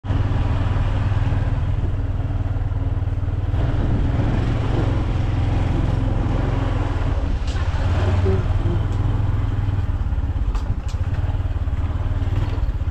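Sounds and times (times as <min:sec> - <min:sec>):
motorcycle engine droning: 0:00.0 - 0:12.9.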